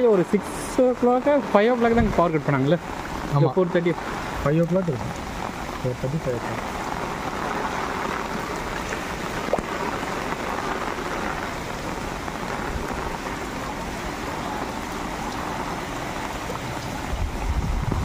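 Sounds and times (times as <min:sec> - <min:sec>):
heavy rain on water: 0:00.0 - 0:18.0
wind rumble on microphone: 0:01.6 - 0:03.3, 0:04.0 - 0:18.0.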